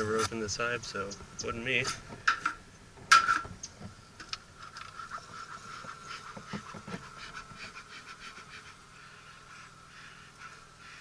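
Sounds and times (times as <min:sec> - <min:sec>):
honeybees humming: 0:00.0 - 0:11.0.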